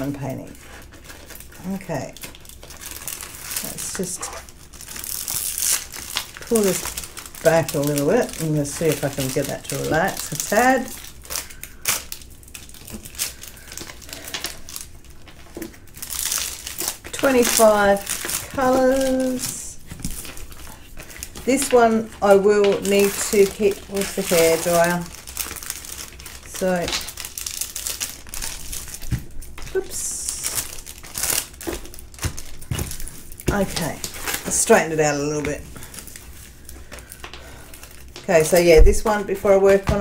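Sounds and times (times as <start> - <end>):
plastic film crinkling under hands: 0.0 - 40.0.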